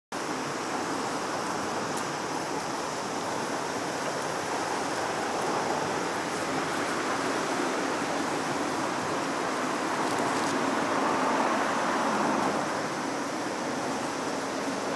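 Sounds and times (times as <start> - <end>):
steady rushing noise: 0.2 - 14.9.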